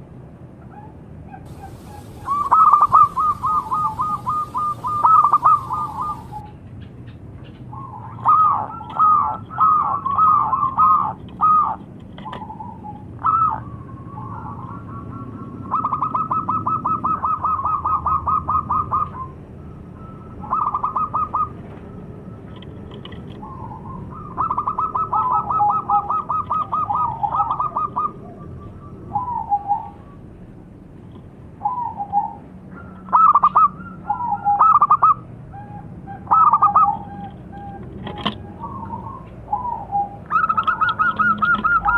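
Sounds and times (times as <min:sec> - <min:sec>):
dove cooing and trilling: 0:00.7 - 0:06.6, 0:07.7 - 0:30.2, 0:31.6 - 0:41.9.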